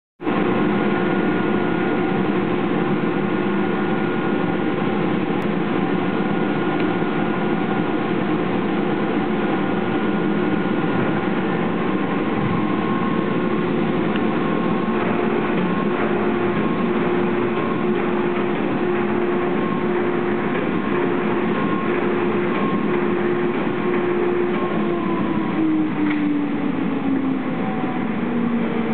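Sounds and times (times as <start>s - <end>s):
factory machinery drone: 0.2s - 28.9s
humming tones: 0.3s - 28.9s.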